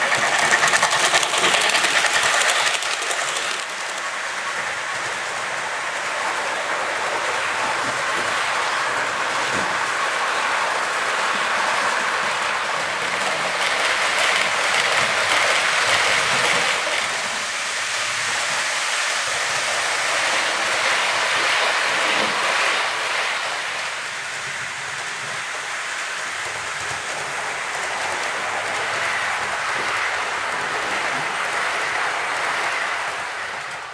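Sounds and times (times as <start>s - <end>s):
model train wheels rolling: 0.0s - 33.9s.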